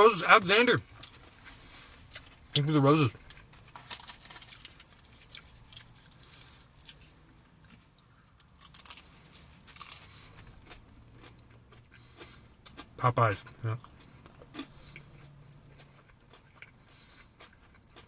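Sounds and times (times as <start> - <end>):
chewing crunchy breading: 0.1 - 18.0.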